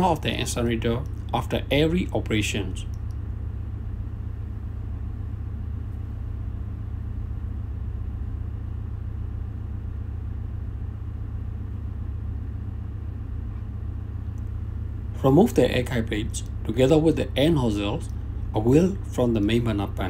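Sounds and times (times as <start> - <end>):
engine room machinery drone: 0.0 - 20.0.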